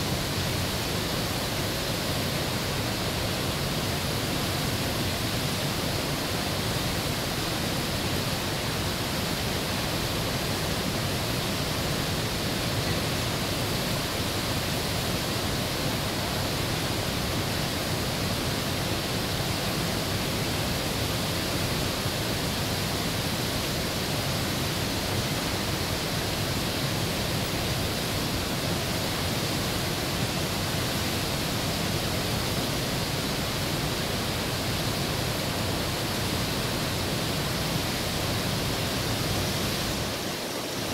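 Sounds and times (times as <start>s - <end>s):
whitewater rushing: 0.0s - 40.9s.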